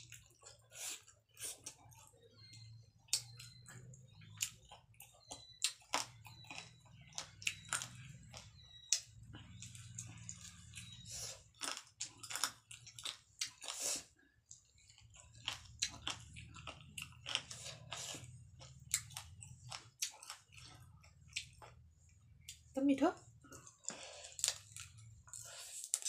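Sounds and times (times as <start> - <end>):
person chewing food: 0.0 - 22.7, 23.4 - 26.0.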